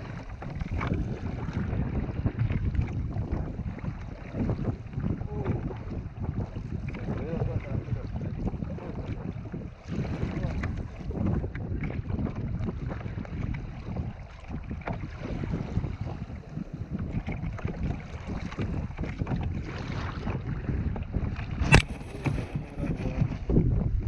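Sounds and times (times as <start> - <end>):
water chopping against a kayak hull: 0.0 - 24.0
wind buffeting the microphone: 0.0 - 24.0.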